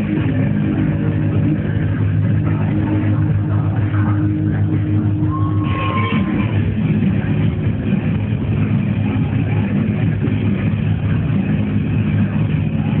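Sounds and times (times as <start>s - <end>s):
distorted bass-heavy dance music: 0.0s - 13.0s.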